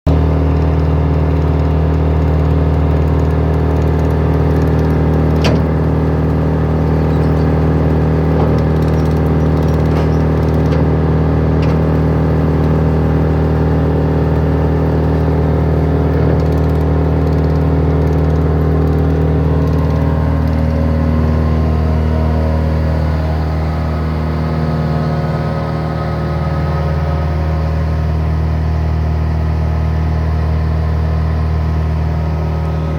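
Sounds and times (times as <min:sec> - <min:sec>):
wood chipper engine running: 0:00.1 - 0:32.9.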